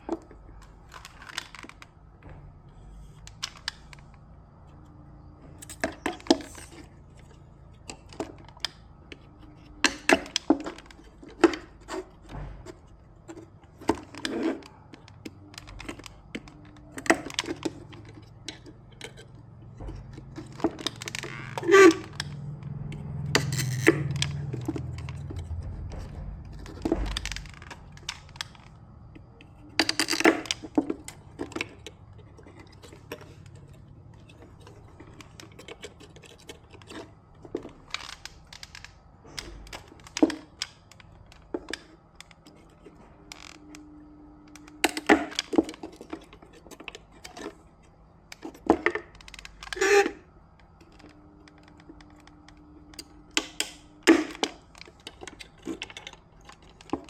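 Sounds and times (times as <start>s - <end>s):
small tools clicking and clattering: 5.5s - 43.6s, 44.5s - 57.0s.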